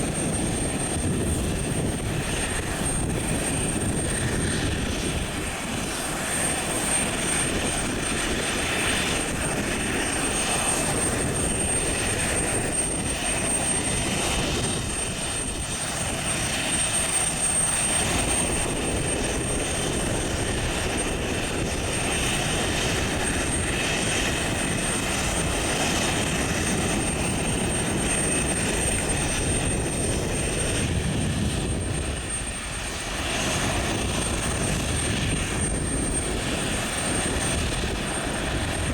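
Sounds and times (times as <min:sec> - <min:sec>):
jet engines roaring with high whine: 0:00.0 - 0:38.9.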